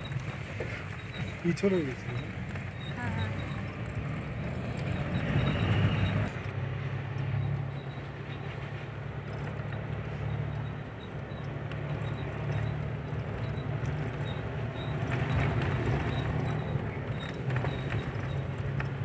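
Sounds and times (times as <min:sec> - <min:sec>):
vehicle engine droning: 0:00.0 - 0:19.0
wind and road noise: 0:00.0 - 0:19.0.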